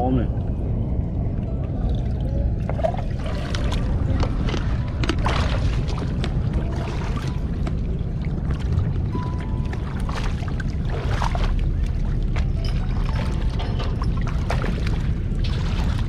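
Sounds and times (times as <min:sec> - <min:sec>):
low rumble: 0:00.0 - 0:16.0
river water splashing: 0:02.6 - 0:16.0.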